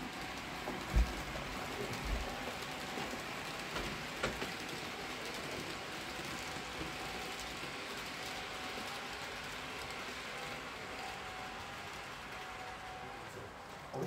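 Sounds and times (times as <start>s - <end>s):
model train whirring on track: 0.0s - 14.0s.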